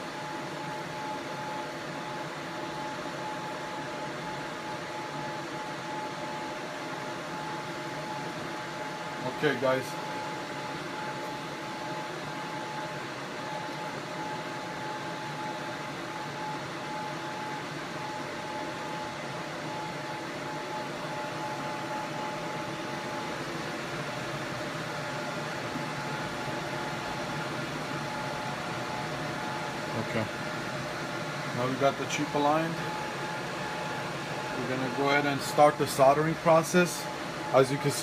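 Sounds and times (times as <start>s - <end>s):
fan hum: 0.0s - 38.0s
thin steady whine: 0.0s - 38.0s.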